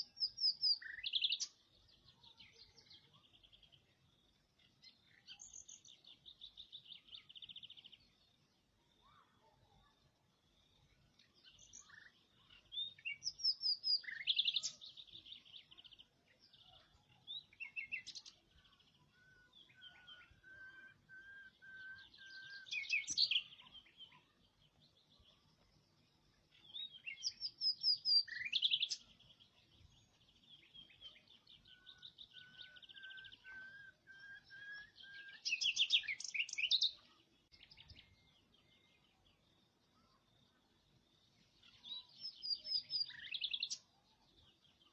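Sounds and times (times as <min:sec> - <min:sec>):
songbird trills and chirps: 0:00.0 - 0:44.9.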